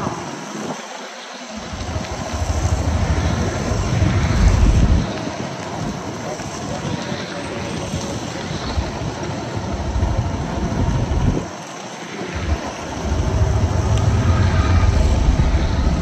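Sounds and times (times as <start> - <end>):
wind buffeting microphone: 0.0 - 16.0
vehicle road noise: 1.0 - 16.0.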